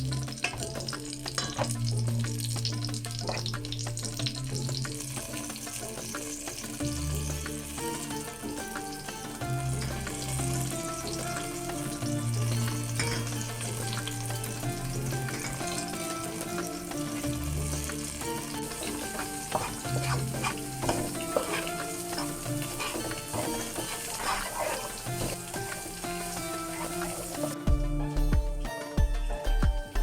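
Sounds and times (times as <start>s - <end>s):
food sizzling in a pan: 0.0s - 27.6s.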